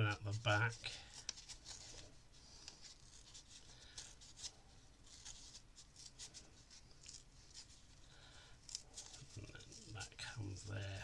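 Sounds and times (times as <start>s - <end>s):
paper rustling and tearing: 0.0s - 11.0s.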